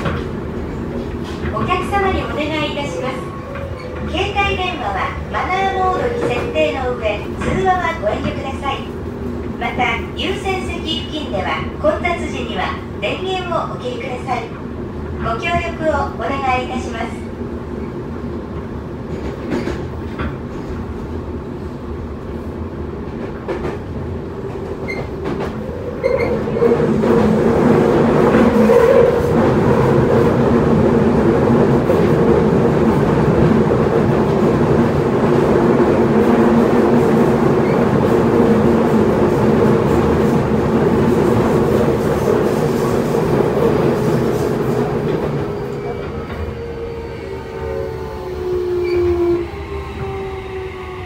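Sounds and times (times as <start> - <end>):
subway train wheels rumbling: 0.0 - 51.0.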